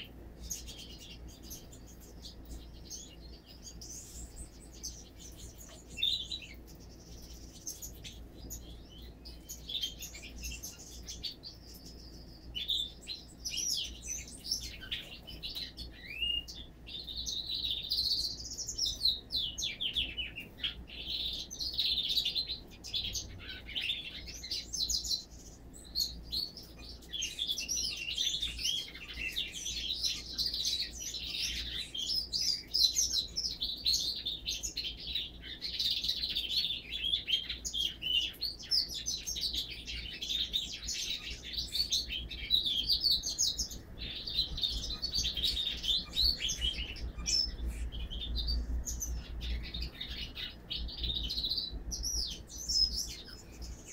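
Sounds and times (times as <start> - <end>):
bird twittering song: 0.0 - 53.9.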